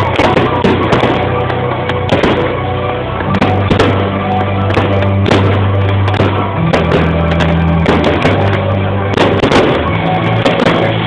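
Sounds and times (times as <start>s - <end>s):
fireworks bursting: 0.0s - 11.0s
loud music with bass line: 0.0s - 11.0s.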